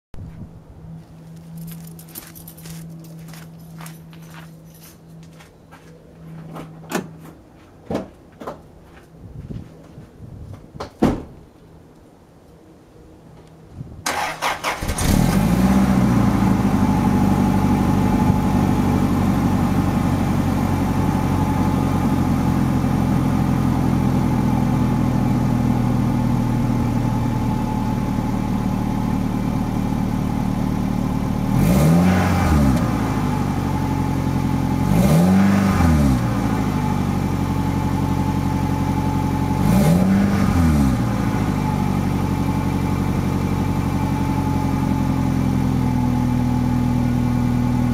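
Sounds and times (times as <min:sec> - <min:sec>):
car engine idling and revving: 0:00.3 - 0:05.4, 0:14.1 - 0:47.9.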